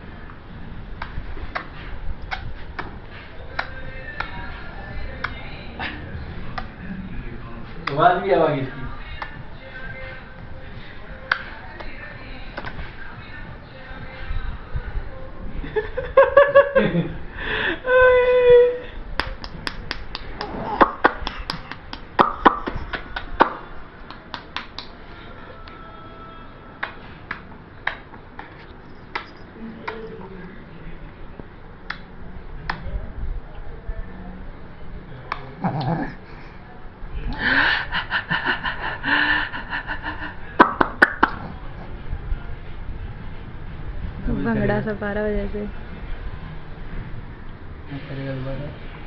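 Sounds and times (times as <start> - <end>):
faint background music: 0.0 - 49.0.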